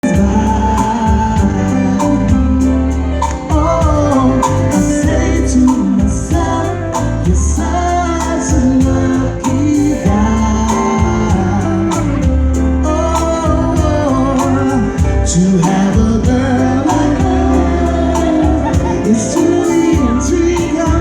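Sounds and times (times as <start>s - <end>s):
band playing: 0.0s - 21.0s
bass: 0.0s - 21.0s
drums: 0.0s - 21.0s
person singing: 0.0s - 21.0s.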